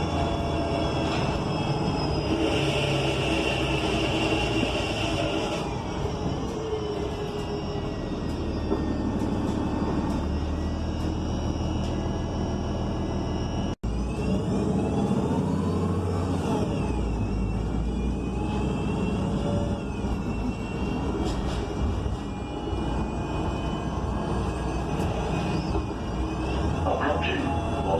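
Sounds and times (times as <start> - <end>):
bus engine rumbling: 0.0 - 27.9
transmission whine: 0.0 - 27.9.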